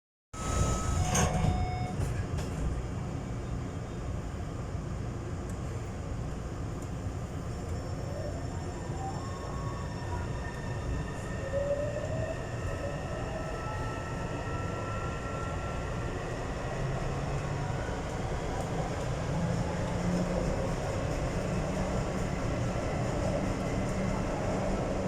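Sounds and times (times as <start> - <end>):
train wheels rumbling on rail: 0.4 - 8.0, 10.0 - 25.0.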